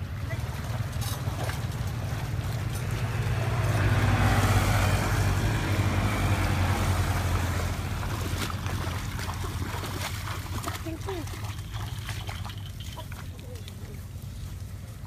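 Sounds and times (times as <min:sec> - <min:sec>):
motor engine passing by: 0:00.0 - 0:15.0.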